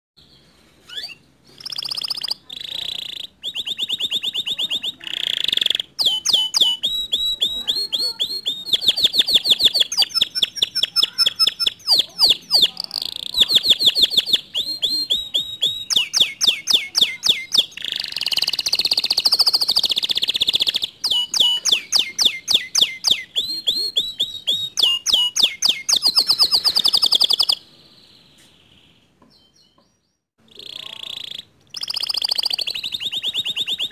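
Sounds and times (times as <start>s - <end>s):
canary singing trills: 0.2s - 33.9s.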